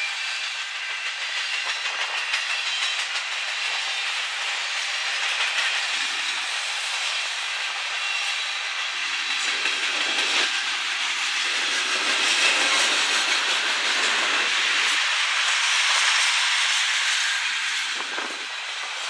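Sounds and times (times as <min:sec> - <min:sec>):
train cars rolling on rails: 0:00.0 - 0:19.0.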